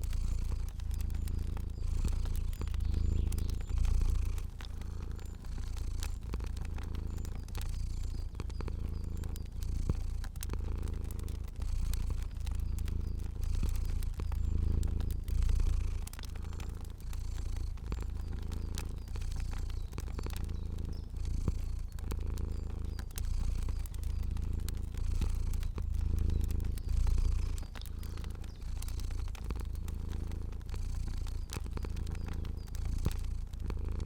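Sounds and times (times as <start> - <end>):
cat purring: 0.0 - 34.0
fire crackling: 0.0 - 34.0.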